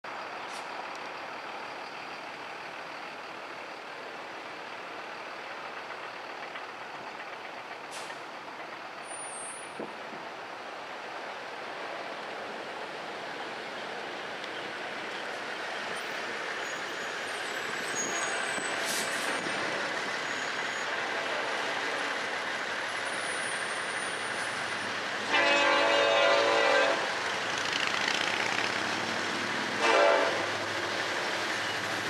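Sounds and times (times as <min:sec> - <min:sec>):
steady vehicle noise: 0:00.0 - 0:32.0.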